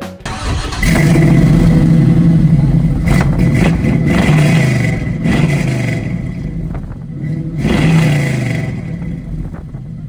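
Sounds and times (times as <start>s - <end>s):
car engine revving: 0.2s - 10.0s.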